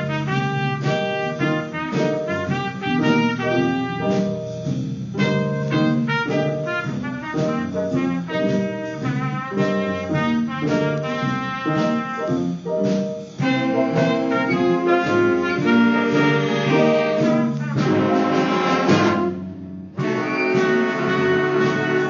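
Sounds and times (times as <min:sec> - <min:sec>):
jazz brass band: 0:00.0 - 0:22.0.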